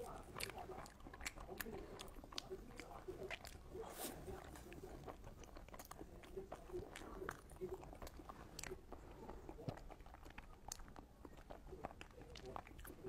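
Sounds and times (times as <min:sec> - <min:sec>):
close chewing with mouth clicks: 0:00.0 - 0:13.0.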